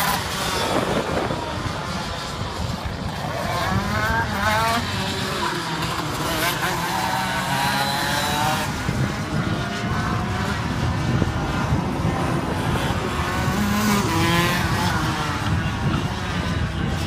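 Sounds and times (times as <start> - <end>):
go-kart engine accelerating: 0.0 - 17.0.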